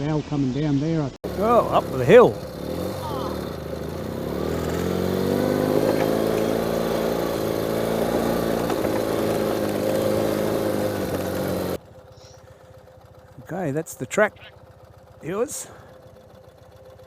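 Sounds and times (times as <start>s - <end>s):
motorcycle engine revving: 1.2s - 17.0s.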